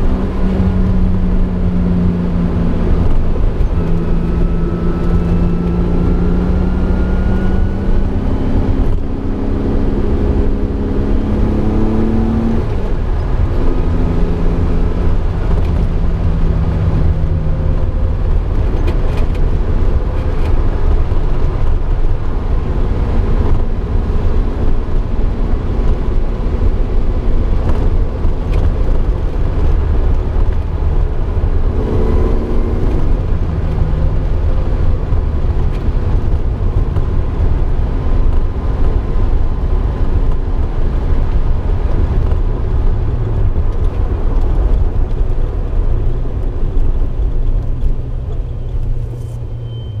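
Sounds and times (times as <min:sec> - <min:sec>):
car exhaust drone from cabin: 0:00.0 - 0:50.0.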